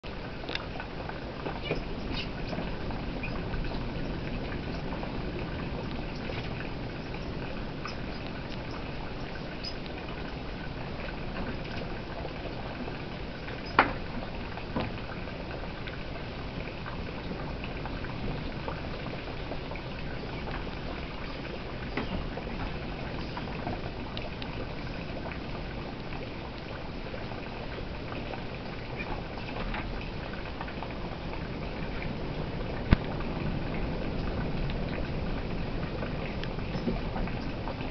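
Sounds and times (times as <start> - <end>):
running water: 0.0 - 37.9.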